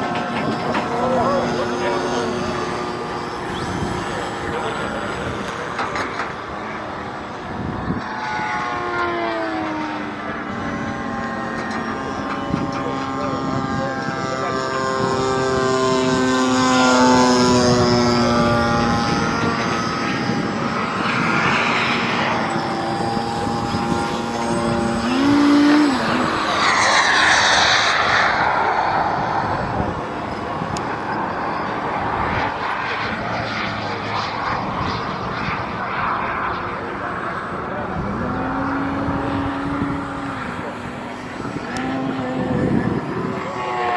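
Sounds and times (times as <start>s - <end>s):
model plane motor whine: 0.0s - 43.9s.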